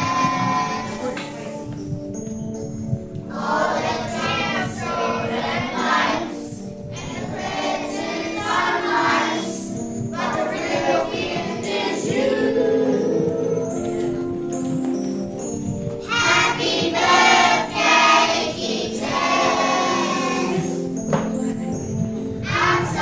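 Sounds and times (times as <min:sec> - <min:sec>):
children singing: 0:00.0 - 0:01.6, 0:03.3 - 0:14.7, 0:16.0 - 0:21.0, 0:22.4 - 0:23.0
backing music: 0:00.0 - 0:23.0.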